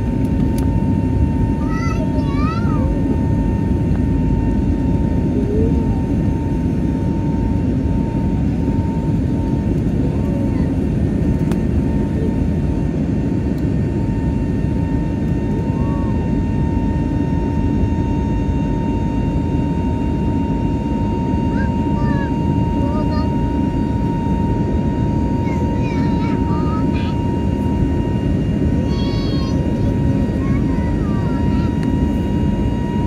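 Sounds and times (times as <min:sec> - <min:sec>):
high engine whine: 0:00.0 - 0:33.0
jet engine rumble in cabin: 0:00.0 - 0:33.0.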